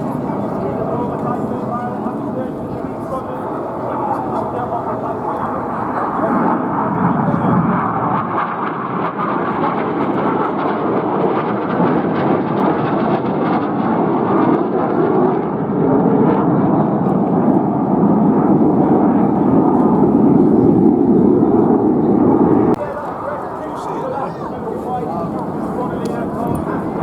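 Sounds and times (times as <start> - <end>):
aircraft engine rumble: 0.0 - 27.0.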